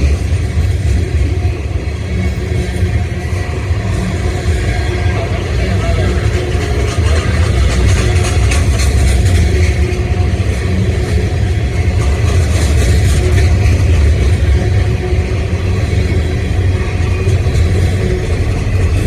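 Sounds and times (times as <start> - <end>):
faint engine drone: 0.0 - 19.0
freight train rumbling by: 0.0 - 19.0
wheels clicking: 0.0 - 19.0.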